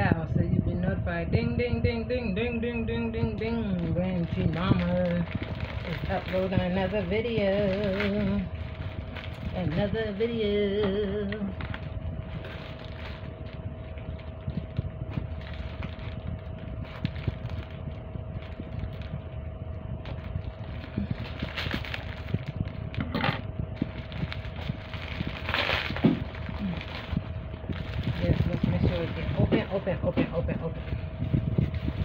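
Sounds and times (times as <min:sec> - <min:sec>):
faint steady hum: 0:00.0 - 0:32.0
low rumble: 0:00.0 - 0:32.0
plastic bag rustling and crinkling: 0:03.4 - 0:32.0.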